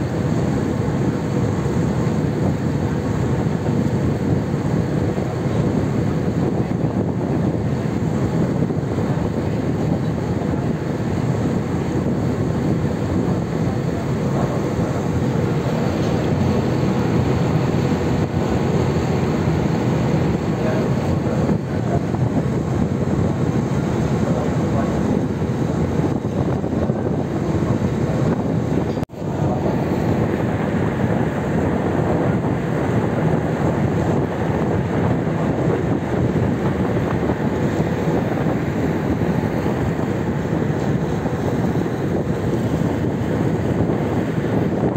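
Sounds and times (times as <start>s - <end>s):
propeller wake churning: 0.0s - 44.9s
ship engines droning: 0.0s - 44.9s.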